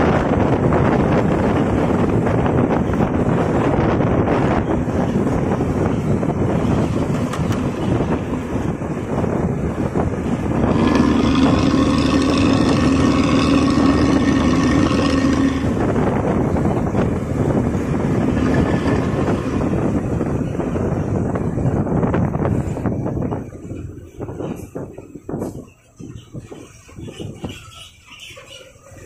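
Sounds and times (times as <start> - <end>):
road traffic rumbling: 0.0 - 29.0
wind buffeting microphone: 0.0 - 29.0.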